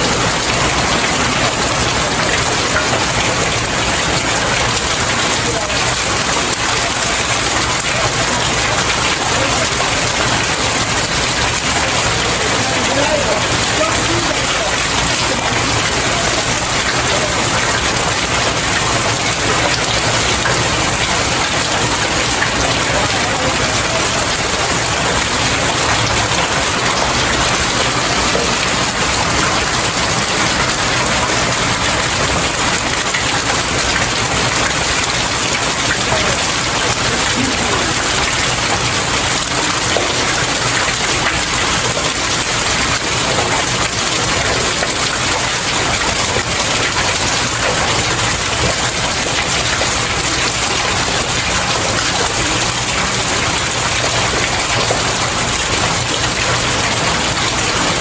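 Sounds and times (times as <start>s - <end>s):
rain falling on stairs: 0.0s - 58.0s.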